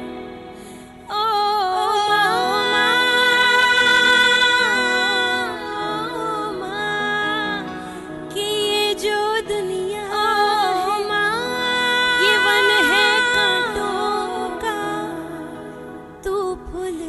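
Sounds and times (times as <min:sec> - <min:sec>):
musical accompaniment: 0:00.0 - 0:17.0
woman singing sliding notes: 0:00.0 - 0:17.0.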